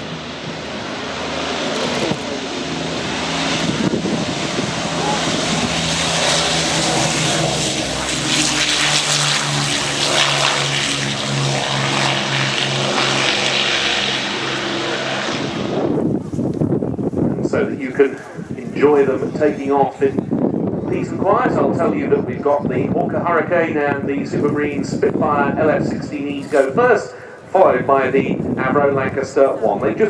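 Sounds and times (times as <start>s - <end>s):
propeller aircraft engines droning: 0.0s - 30.0s.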